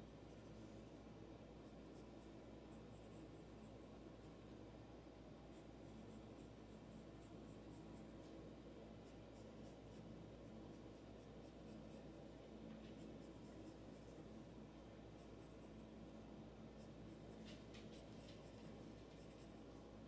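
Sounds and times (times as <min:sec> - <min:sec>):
pencil scratching on paper: 0:00.2 - 0:00.8, 0:01.6 - 0:03.8, 0:05.5 - 0:08.3, 0:09.0 - 0:20.0.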